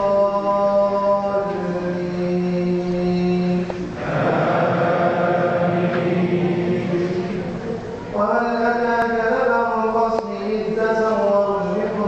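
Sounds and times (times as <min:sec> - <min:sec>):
man chanting melodic recitation: 0:00.0 - 0:03.9, 0:04.7 - 0:12.0.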